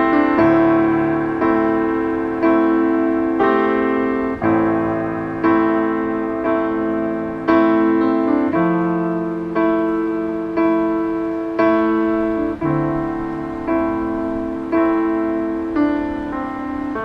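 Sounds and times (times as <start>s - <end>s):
slow solo piano chords: 0.0s - 17.0s.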